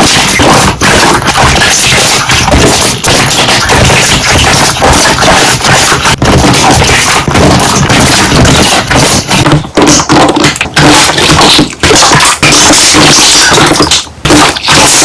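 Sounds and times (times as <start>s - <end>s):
slime popping and squelching: 0.0s - 15.0s.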